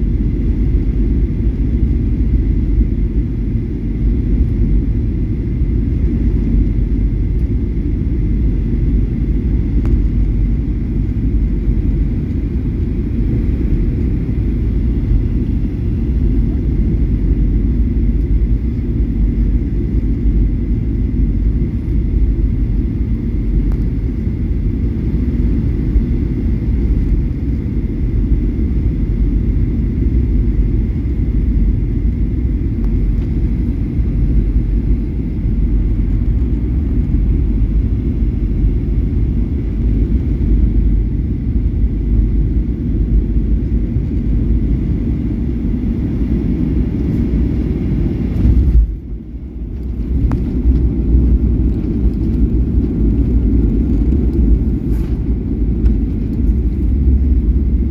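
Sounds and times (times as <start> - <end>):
airliner in flight rumble: 0.0 - 57.9.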